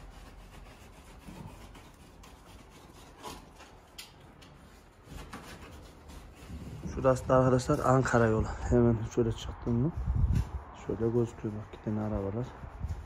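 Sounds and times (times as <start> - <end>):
faint rubbing and scraping: 0.0 - 13.0.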